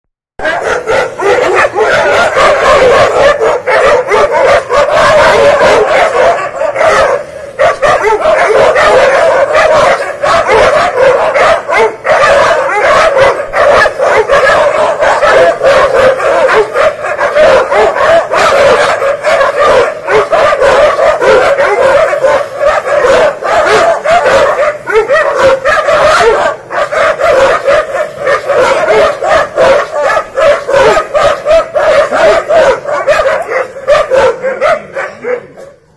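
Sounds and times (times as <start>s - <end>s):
dogs barking and yelping: 0.4s - 35.9s.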